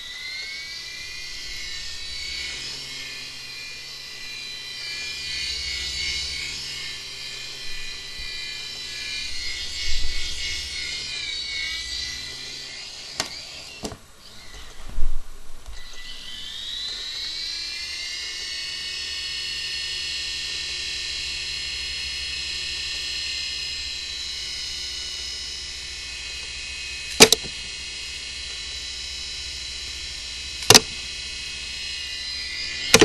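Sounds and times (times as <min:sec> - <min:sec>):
toy helicopter motor whining: 0:00.0 - 0:33.0.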